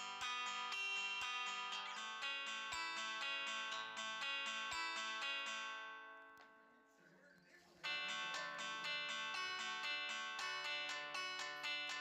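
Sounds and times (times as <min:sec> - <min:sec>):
plucked guitar tune: 0:00.0 - 0:06.6, 0:07.8 - 0:12.0.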